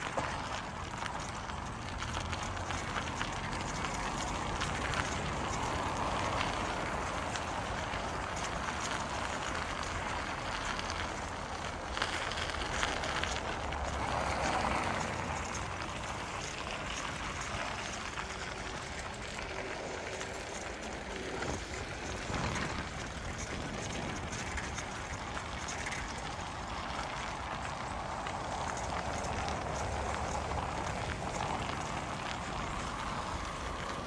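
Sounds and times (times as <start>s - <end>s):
bicycle tyres rolling on snow: 0.0s - 34.0s.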